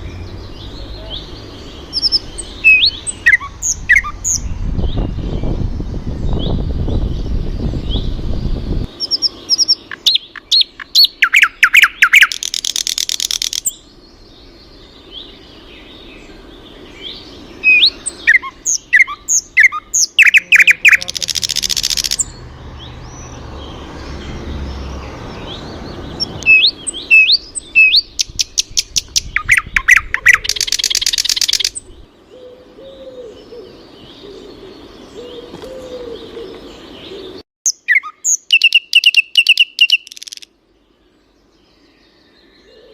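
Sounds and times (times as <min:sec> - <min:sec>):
soft bird chirps: 0:00.0 - 0:42.9
songbird song with buzzy trill: 0:00.0 - 0:42.9.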